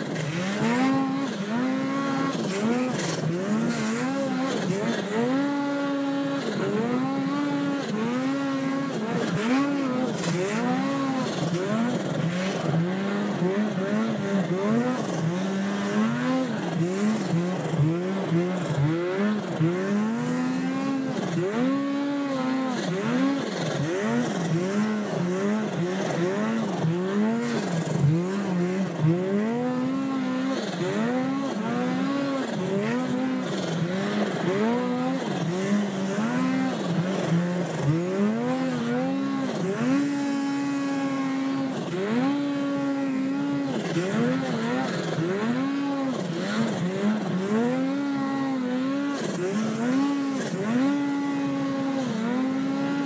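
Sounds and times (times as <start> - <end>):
snowmobile engine revving: 0.0 - 53.0.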